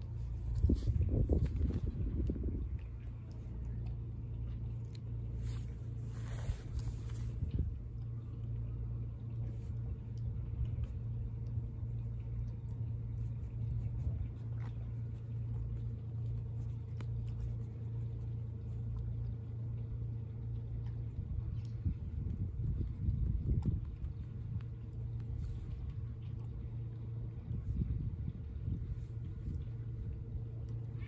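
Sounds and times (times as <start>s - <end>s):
engine humming at idle: 0.0s - 31.0s.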